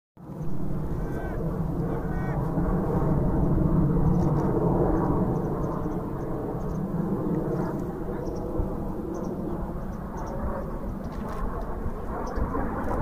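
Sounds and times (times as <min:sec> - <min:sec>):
jet engine rumble: 0:00.2 - 0:13.0.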